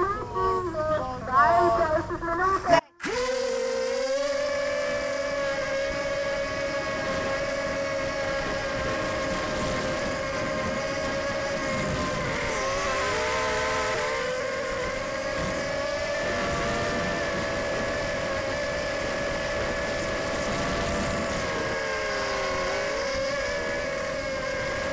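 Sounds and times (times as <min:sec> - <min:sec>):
drone motors whining: 0:00.0 - 0:24.9.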